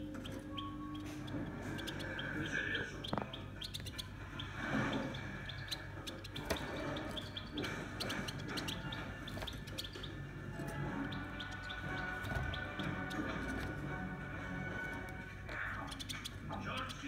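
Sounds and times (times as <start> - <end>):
goldfinches chirping: 0.0 - 17.0.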